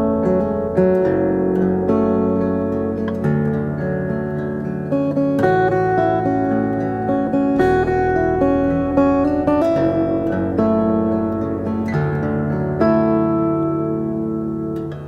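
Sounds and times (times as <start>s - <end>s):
acoustic guitar strummed and plucked: 0.0s - 15.0s.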